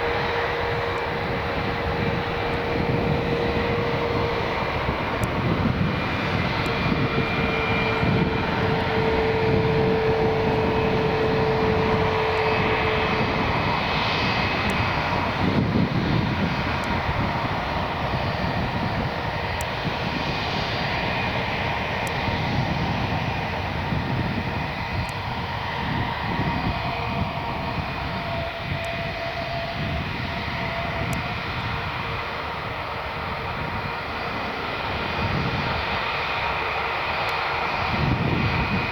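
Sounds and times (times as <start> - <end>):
jet engines whining roar: 0.0 - 38.9.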